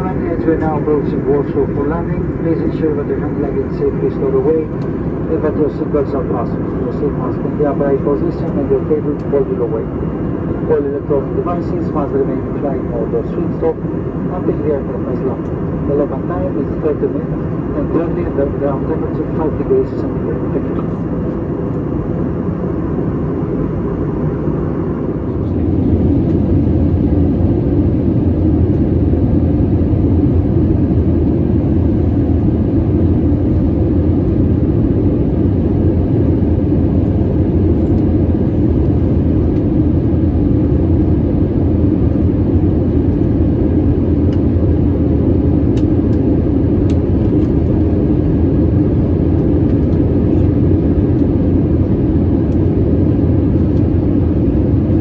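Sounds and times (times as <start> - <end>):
airplane cabin engine rush: 0.0 - 55.0.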